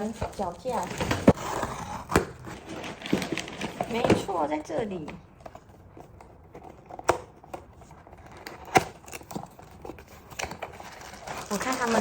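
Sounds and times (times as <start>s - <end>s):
faint packaging rustling: 0.0s - 12.0s.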